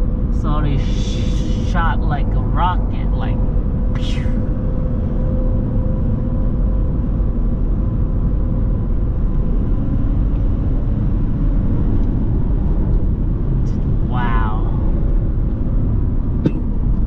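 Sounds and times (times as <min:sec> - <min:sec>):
diesel engine rumble: 0:00.0 - 0:17.0
faint steady whine: 0:00.0 - 0:17.0
road noise: 0:00.0 - 0:17.0.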